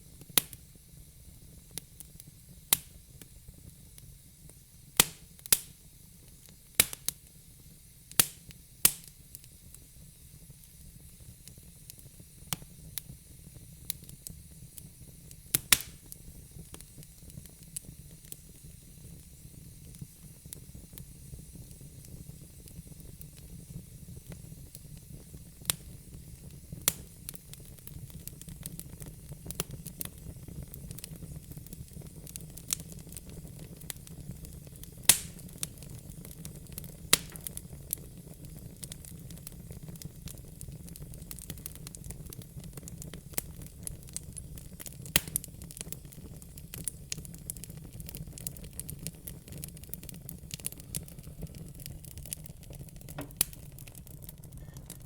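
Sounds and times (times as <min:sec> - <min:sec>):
low fire rumble: 0:00.0 - 0:55.0
wood fire crackling: 0:00.0 - 0:55.0
burning logs popping: 0:00.1 - 0:00.7, 0:01.7 - 0:07.4, 0:08.1 - 0:55.0.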